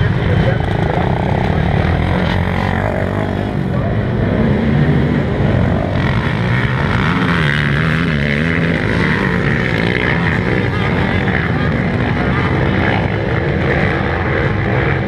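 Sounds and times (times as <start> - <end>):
quad engines revving: 0.0 - 15.0.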